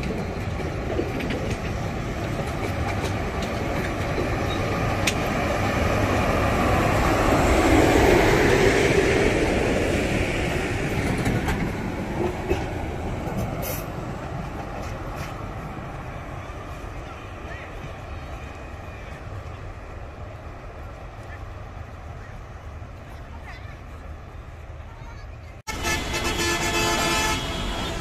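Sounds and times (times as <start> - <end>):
train coaches rumbling past: 0.0 - 28.0.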